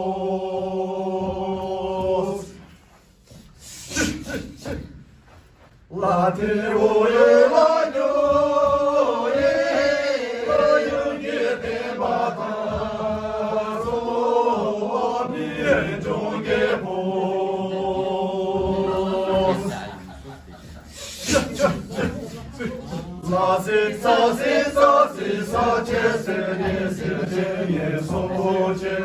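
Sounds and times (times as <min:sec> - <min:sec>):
group singing in unison: 0:00.0 - 0:29.0.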